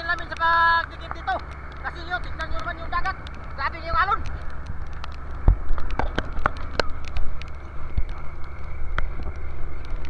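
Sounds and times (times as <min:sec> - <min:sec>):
boat engine running: 0:00.0 - 0:10.0
sharp irregular clicks and knocks: 0:00.0 - 0:10.0
strong wind: 0:00.0 - 0:10.0.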